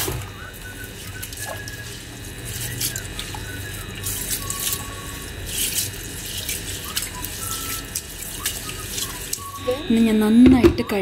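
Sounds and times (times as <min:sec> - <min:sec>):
hands swishing grains in water: 0:00.0 - 0:09.7
water splashing and sloshing: 0:00.0 - 0:10.9.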